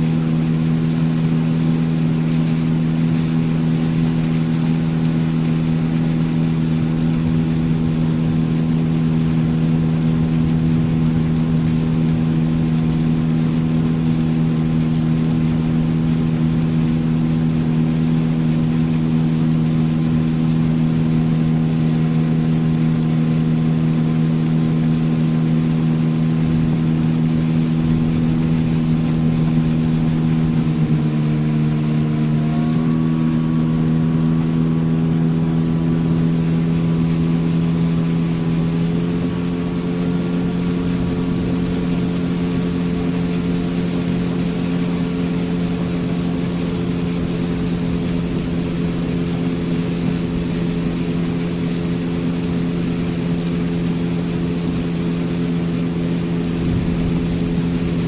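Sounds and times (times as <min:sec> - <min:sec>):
outboard engine running: 0:00.0 - 0:58.0
water rushing: 0:00.0 - 0:58.0
wind: 0:00.0 - 0:58.0.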